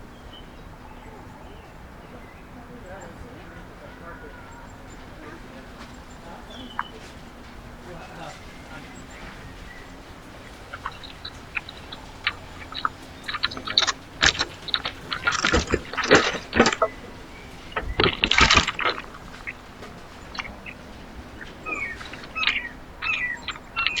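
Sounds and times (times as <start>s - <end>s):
rattling clatter at bird feeder: 3.0s - 24.0s.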